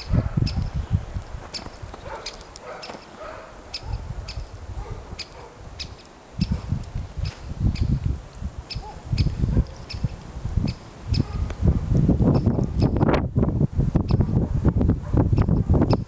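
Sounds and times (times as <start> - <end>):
storm wind gusting on microphone: 0.0 - 2.2, 3.6 - 16.0.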